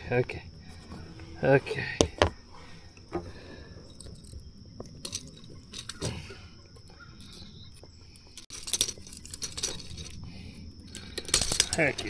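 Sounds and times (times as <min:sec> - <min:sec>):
insects chirring: 0:00.0 - 0:12.0
handling rustles and clicks: 0:02.0 - 0:12.0.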